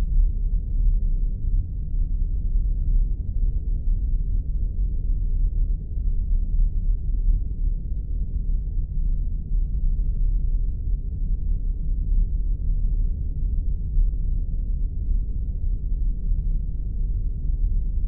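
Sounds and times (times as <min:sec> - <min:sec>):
deep rumbling drone: 0:00.0 - 0:18.0.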